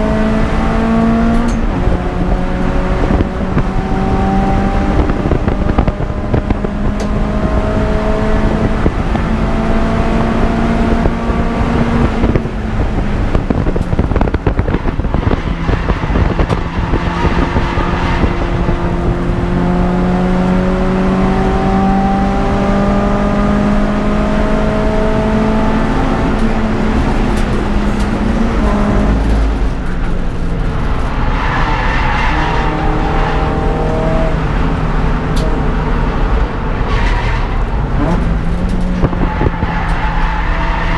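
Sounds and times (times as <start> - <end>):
car engine revving through gears: 0.0 - 40.9.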